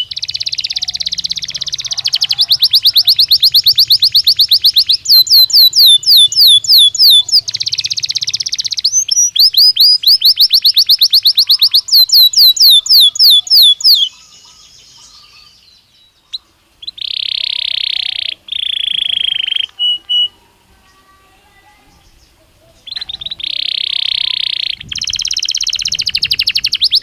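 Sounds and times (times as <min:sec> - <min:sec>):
canary singing: 0:00.0 - 0:27.0.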